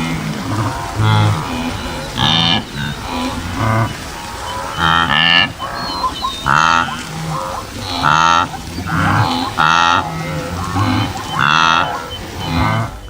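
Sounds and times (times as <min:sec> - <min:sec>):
animals mooing in a group: 0:00.0 - 0:13.0.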